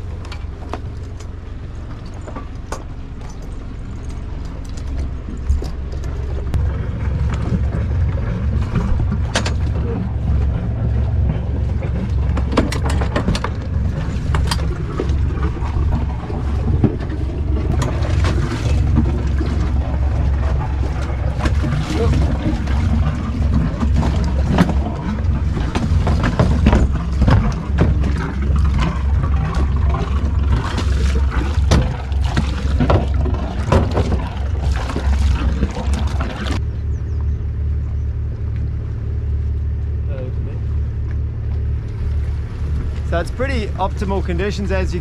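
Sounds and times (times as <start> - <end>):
boat engine running: 0.0 - 45.0
clunks and knocks of gear: 0.2 - 36.6.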